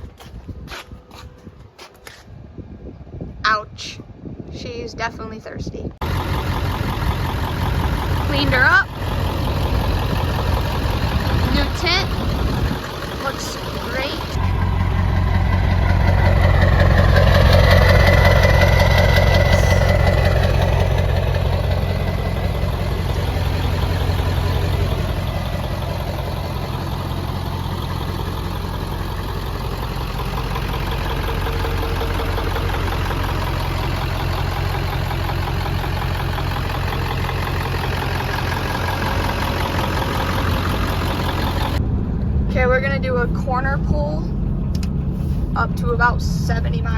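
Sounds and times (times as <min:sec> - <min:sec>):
diesel engine idling: 0:06.0 - 0:46.9.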